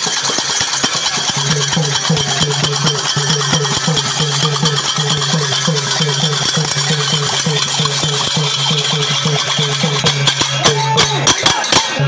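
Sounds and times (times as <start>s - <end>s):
drum beating fast rhythm: 0.0s - 12.0s
small hand cymbals ringing: 0.0s - 12.0s.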